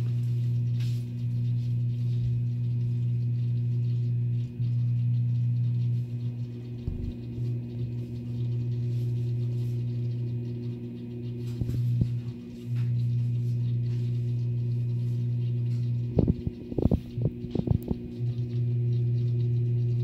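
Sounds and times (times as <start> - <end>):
water pump humming: 0.0 - 20.0.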